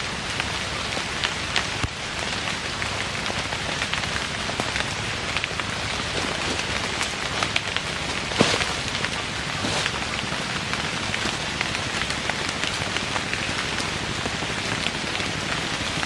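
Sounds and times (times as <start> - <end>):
close raindrop hits: 0.0 - 16.0
heavy rain falling: 0.0 - 16.0.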